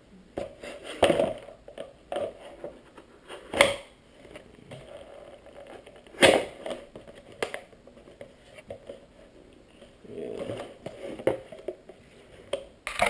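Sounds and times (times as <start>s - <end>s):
plastic crinkling and scraping: 0.5s - 13.0s.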